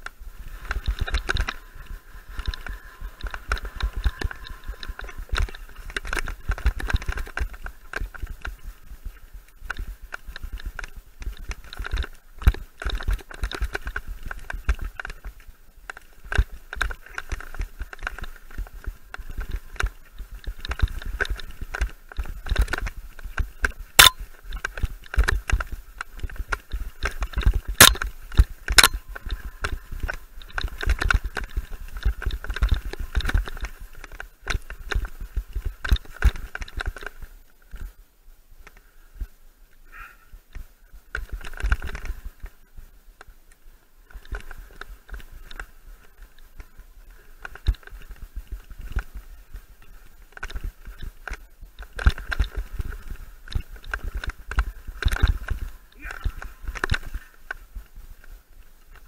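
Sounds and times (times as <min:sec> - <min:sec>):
mountain bike rattling over dirt: 0:00.0 - 0:59.0.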